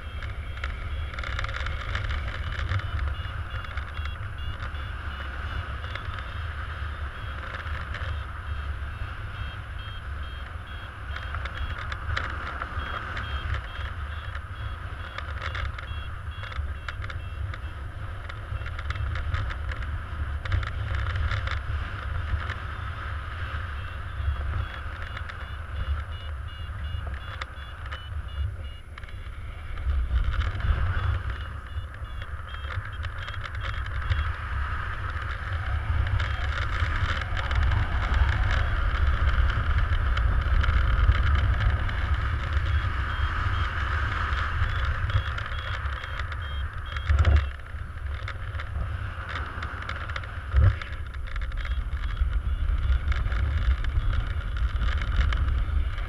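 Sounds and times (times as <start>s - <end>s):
variometer beeping: 0.0s - 56.0s
wind buffeting microphone: 0.0s - 56.0s.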